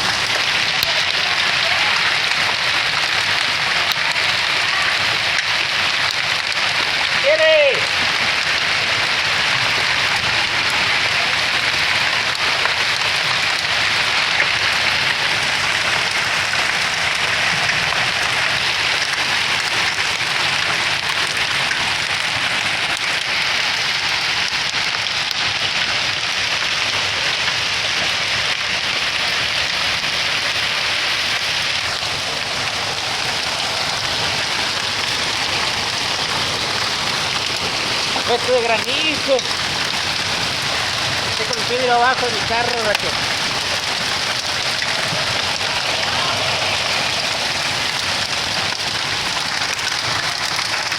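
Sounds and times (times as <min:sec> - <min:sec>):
heavy rain and hail: 0:00.0 - 0:50.9.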